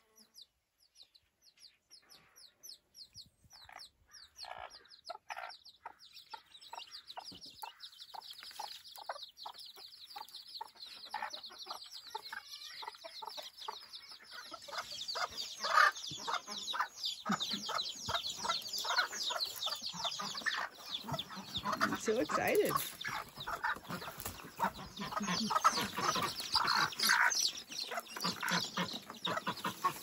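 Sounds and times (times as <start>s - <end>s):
chicks peeping: 0.0s - 30.0s
hen clucking: 3.1s - 30.0s.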